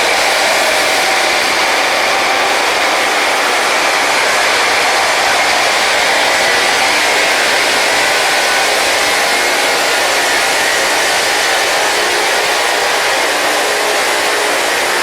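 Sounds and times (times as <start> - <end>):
rail grinding machine grinding: 0.0 - 15.0.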